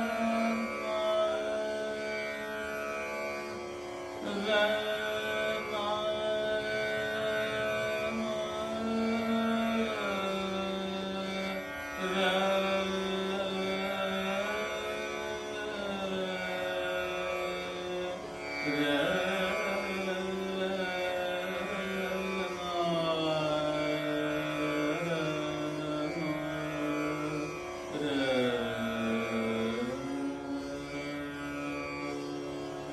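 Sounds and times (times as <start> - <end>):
indian classical sliding melody: 0.0 - 32.9.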